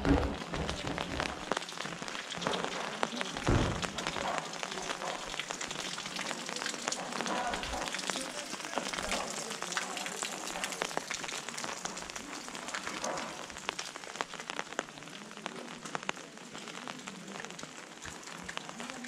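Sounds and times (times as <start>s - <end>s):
rain on an umbrella: 0.0s - 19.0s.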